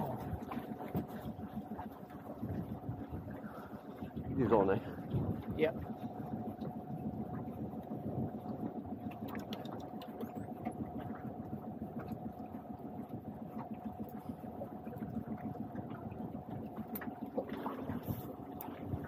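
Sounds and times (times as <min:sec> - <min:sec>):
mid-pitched hum: 0:00.0 - 0:19.0.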